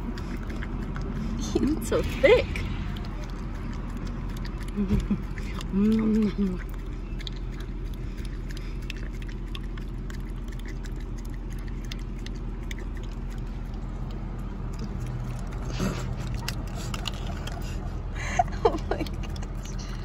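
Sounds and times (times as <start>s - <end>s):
dog licking: 0.0s - 17.9s, 18.5s - 20.0s
car low hum: 0.0s - 20.0s.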